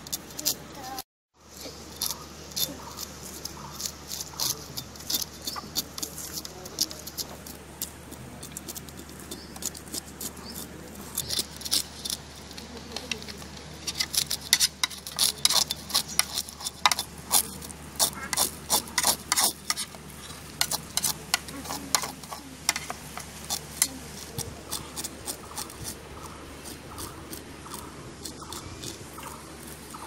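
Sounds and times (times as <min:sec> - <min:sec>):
knife scraping fish scales: 0:01.6 - 0:30.0.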